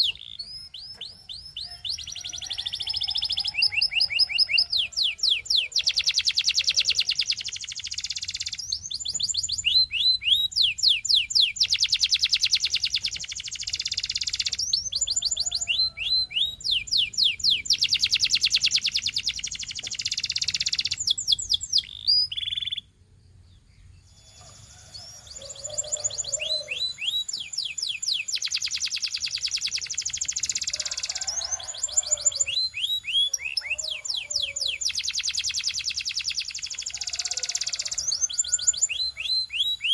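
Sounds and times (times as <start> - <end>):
canary singing: 0.0 - 23.0, 23.9 - 39.9.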